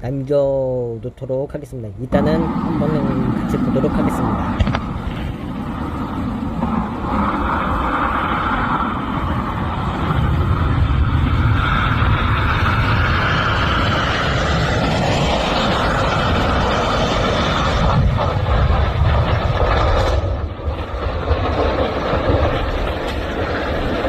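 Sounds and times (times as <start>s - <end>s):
jet engine rushing noise: 2.0s - 24.0s.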